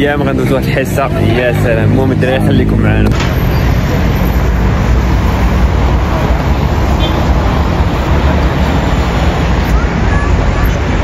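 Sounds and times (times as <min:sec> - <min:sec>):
bus passing: 0:00.0 - 0:11.0
road traffic noise: 0:00.0 - 0:11.0.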